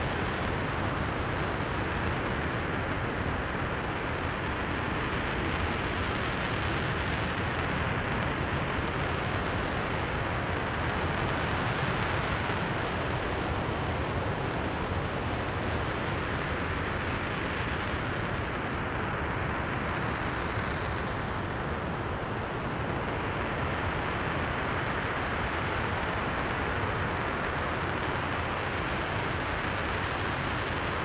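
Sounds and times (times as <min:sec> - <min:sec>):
rocket engine roaring: 0:00.0 - 0:31.0.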